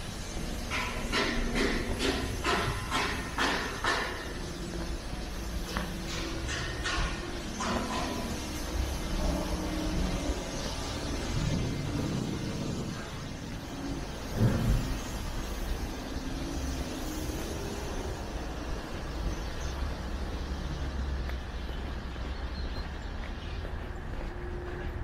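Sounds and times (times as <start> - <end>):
rumble of passing cars: 0.0 - 25.0.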